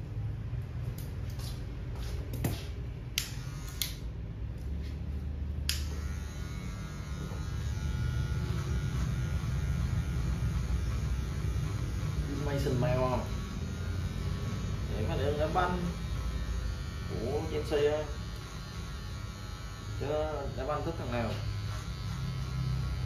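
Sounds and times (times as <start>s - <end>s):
electric hair clippers humming: 3.1s - 23.0s.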